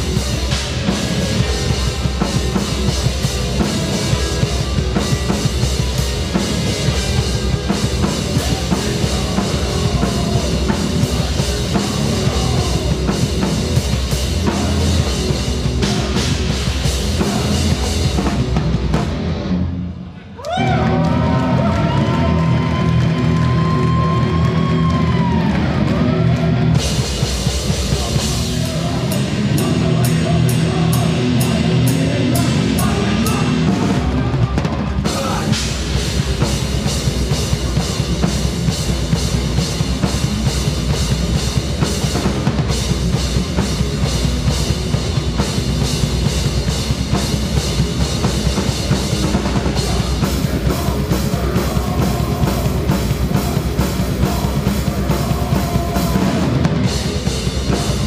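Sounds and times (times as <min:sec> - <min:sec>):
bass drum: 0:00.0 - 0:19.6, 0:20.9 - 0:58.0
live band playing: 0:00.0 - 0:19.8, 0:21.2 - 0:58.0.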